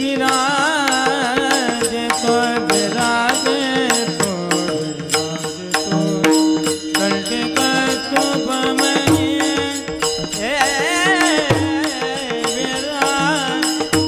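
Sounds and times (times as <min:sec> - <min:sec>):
held melodic notes: 0:00.0 - 0:14.0
drum strokes: 0:00.3 - 0:14.0.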